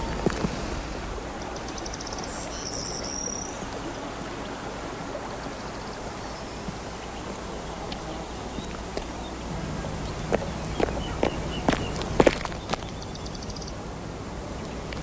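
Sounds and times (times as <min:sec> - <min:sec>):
rushing outdoor hiss: 0:00.0 - 0:15.0.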